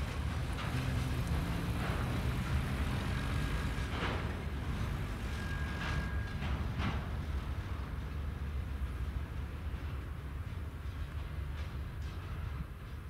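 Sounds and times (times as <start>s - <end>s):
freight train wagons rumbling: 0.0s - 13.0s.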